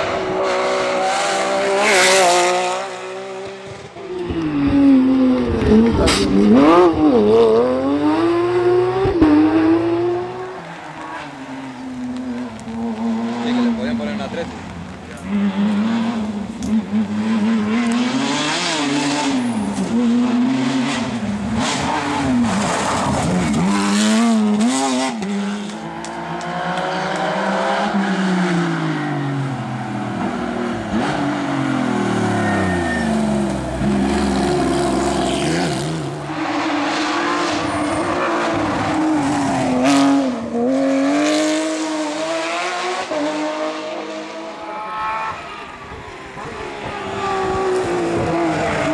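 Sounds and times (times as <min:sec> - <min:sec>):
rally car engine revving hard: 0:00.0 - 0:10.6, 0:15.2 - 0:45.4.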